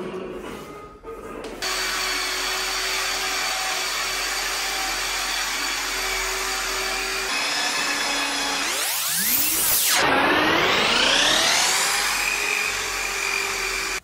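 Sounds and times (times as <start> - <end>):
orbital sander running: 1.6 - 14.0.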